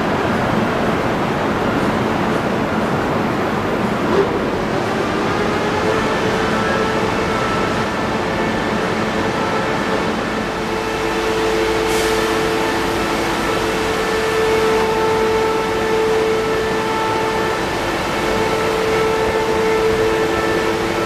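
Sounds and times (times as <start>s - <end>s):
train electrical equipment hum: 0.0s - 21.0s.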